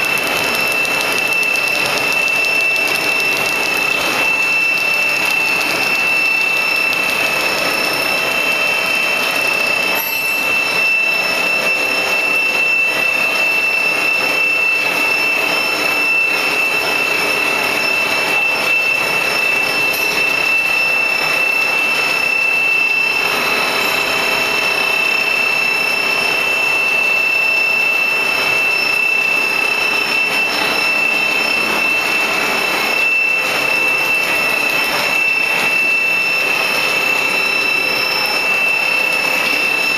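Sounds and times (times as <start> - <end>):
machine whining over mechanical noise: 0.0 - 39.9.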